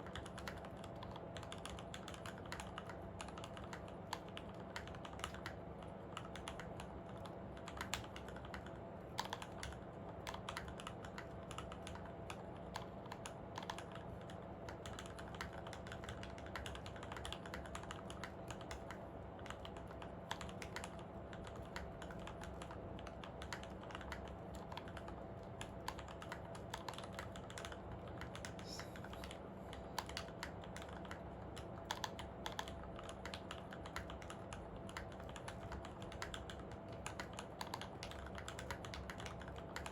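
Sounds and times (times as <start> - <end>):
faint steady hum: 0.0 - 39.9
typing on mechanical keyboard: 0.0 - 39.9.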